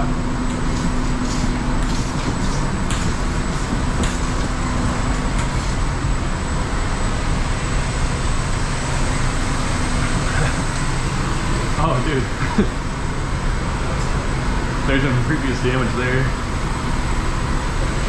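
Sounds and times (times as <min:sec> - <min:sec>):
ramp machinery droning: 0:00.0 - 0:18.0.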